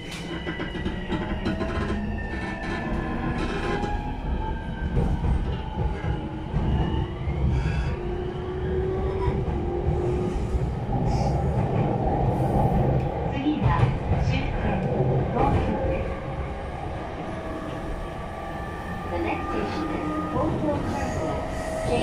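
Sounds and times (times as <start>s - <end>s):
wheels rumbling on rails: 0.0s - 22.0s.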